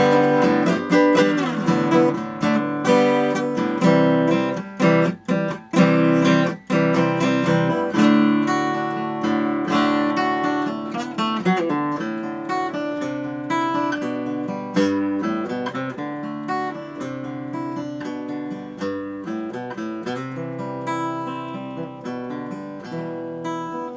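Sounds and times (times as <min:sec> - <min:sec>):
acoustic guitar strummed and picked: 0:00.0 - 0:23.9.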